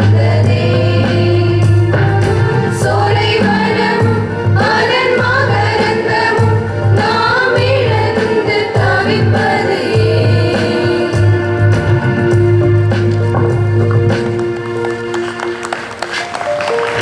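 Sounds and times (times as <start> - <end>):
held low bass notes: 0.0 - 15.7
voices singing a melody: 0.0 - 17.0.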